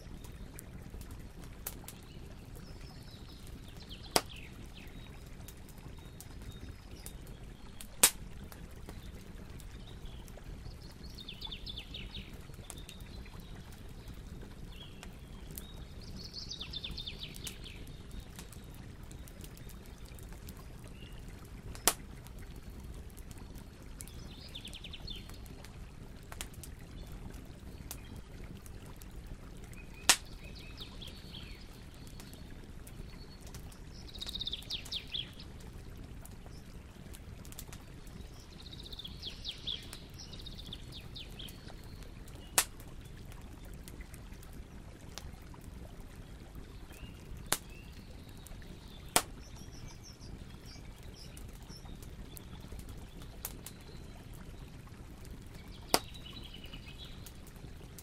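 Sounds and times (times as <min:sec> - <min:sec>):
fire popping: 0:00.0 - 0:16.3, 0:16.9 - 0:58.0
bonfire burning: 0:00.0 - 0:58.0.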